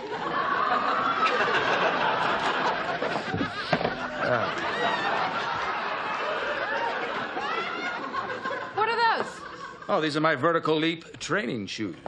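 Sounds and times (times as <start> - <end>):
studio audience laughing: 0.0 - 10.1.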